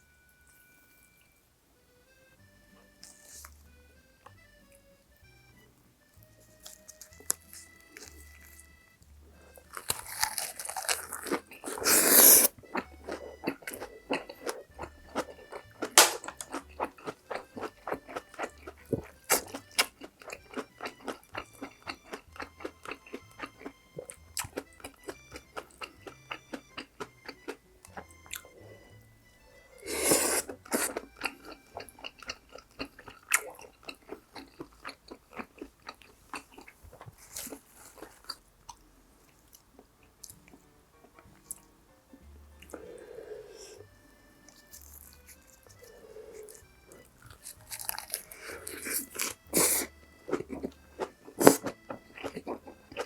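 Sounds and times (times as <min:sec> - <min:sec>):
crunchy chewing: 0:02.8 - 0:04.8, 0:06.1 - 0:29.0, 0:29.7 - 0:41.7, 0:42.6 - 0:53.0.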